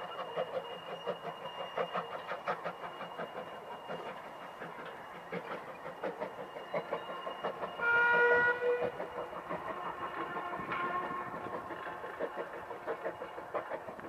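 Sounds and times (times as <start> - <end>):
train wheels and couplings clanking: 0.0 - 14.0.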